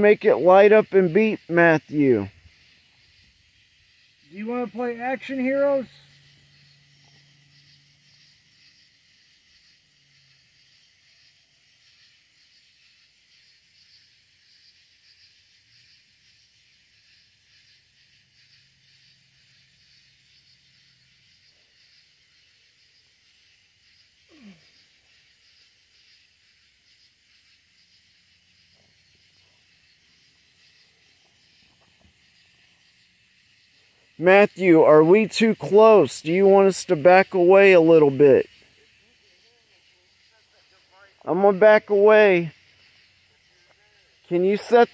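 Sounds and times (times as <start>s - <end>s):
crickets and night insects trilling: 0.0s - 44.9s.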